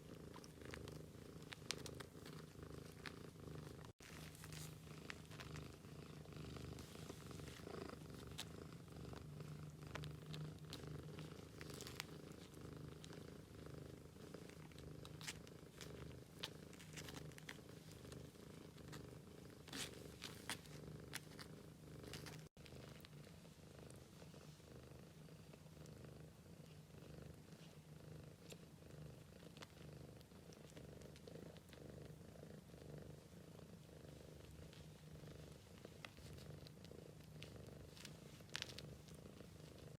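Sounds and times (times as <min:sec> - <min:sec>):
cat purring: 0:00.0 - 0:40.0
small clicks and rustles: 0:00.1 - 0:24.5, 0:26.6 - 0:32.3, 0:33.1 - 0:40.0.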